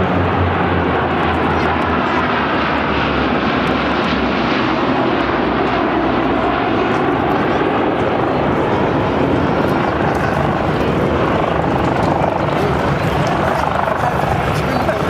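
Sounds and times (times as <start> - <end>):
turboprop aircraft flying past: 0.0 - 15.0.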